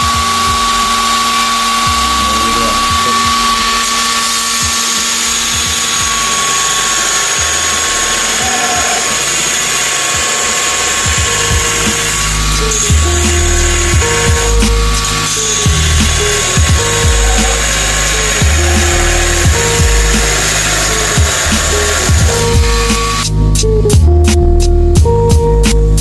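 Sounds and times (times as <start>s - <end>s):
belt grinder grinding metal: 0.0s - 23.4s.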